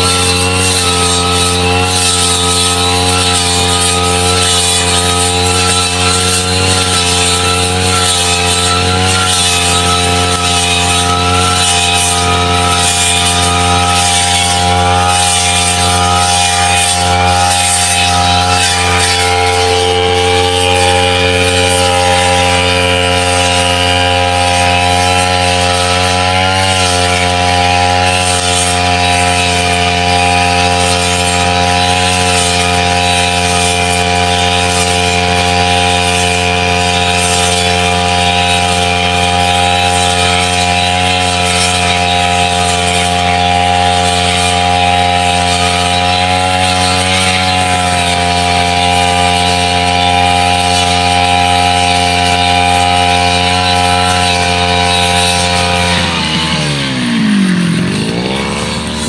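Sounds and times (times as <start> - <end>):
blade cutting wet grass: 0.0 - 59.0
brush cutter engine running: 0.0 - 59.0.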